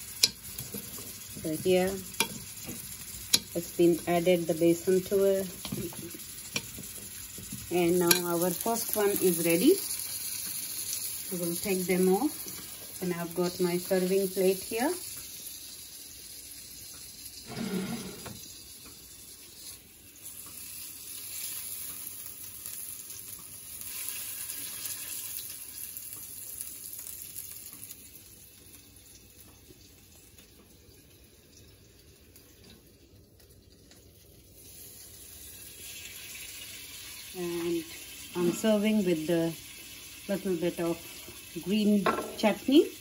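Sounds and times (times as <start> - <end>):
food sizzling in oil: 0.0 - 43.0.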